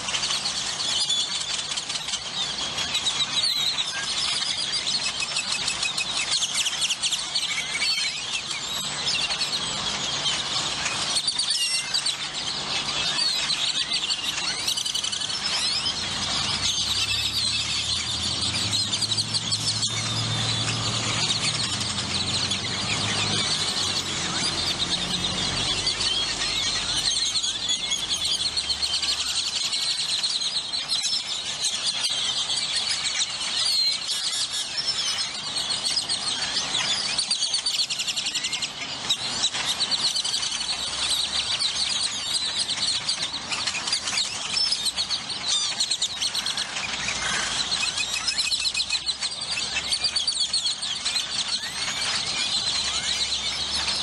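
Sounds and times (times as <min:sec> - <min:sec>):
flock of birds calling: 0:00.0 - 0:54.0.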